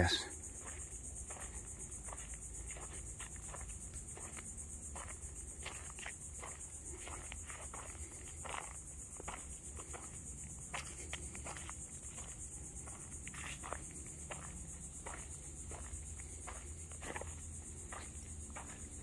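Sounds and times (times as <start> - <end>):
footsteps crunching on sand: 0.0 - 19.0
insect chorus buzzing: 0.0 - 19.0.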